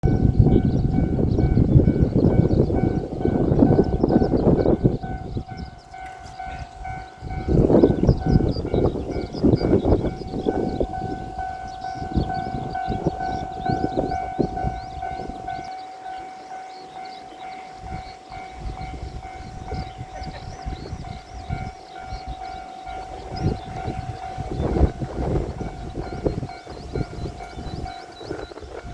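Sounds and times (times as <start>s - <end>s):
level crossing alarm ringing: 0.0s - 28.9s.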